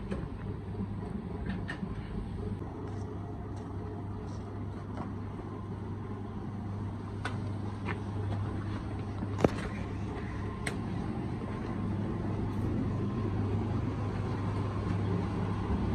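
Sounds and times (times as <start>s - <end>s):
machine humming: 0.0s - 15.9s.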